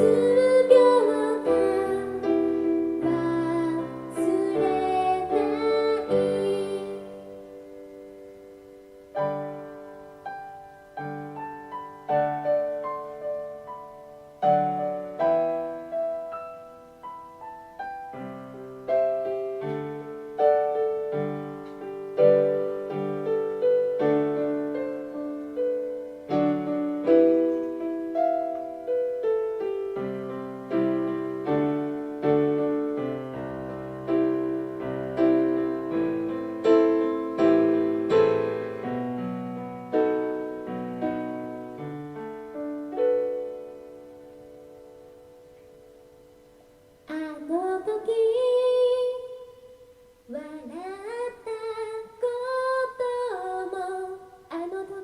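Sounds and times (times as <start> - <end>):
piano chords and melody: 0.0 - 49.2.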